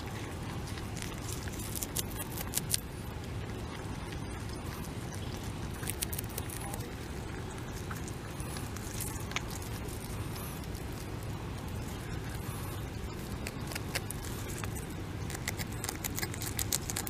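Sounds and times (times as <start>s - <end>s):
beaver chewing leaves: 0.0s - 17.0s
rustling plants: 0.0s - 17.0s
steady low rumble: 0.0s - 17.0s.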